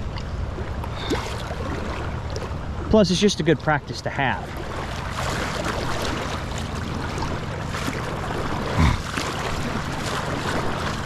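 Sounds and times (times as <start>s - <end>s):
fast river current rushing: 0.9s - 11.0s.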